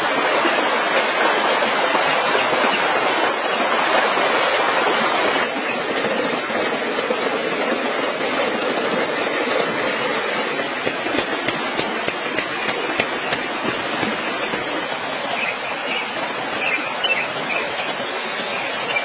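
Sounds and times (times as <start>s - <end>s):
fast stream rushing: 0.0s - 19.0s.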